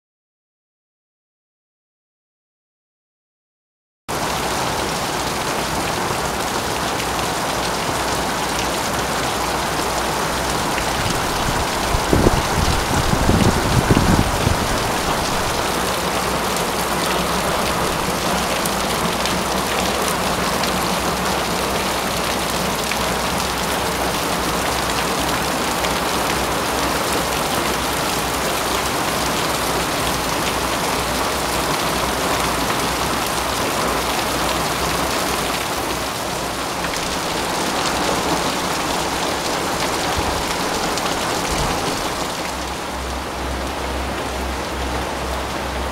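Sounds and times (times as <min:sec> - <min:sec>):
steady rain falling: 0:04.1 - 0:45.9.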